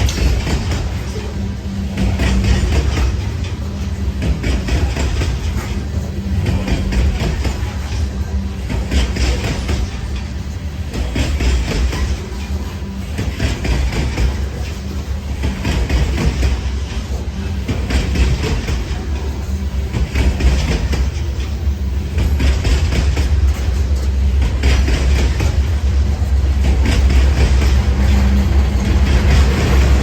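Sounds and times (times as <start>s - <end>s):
freight train rumbling: 0.0s - 30.0s
train wheels clicking over rail joints: 0.0s - 30.0s.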